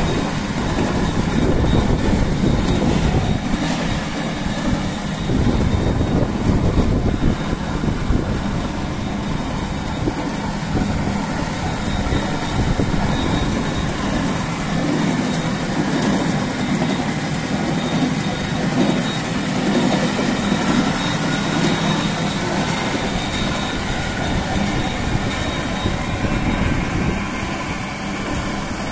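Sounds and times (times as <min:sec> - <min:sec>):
conveyor mechanical noise: 0:00.0 - 0:28.9.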